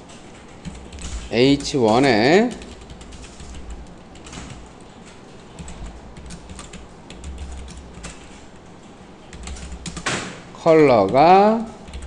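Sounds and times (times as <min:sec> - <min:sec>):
keyboard typing clicks: 0:00.1 - 0:12.0.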